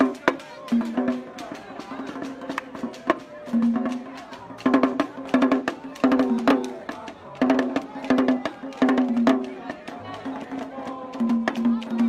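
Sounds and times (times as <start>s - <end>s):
hand drums played fast: 0.0s - 12.0s.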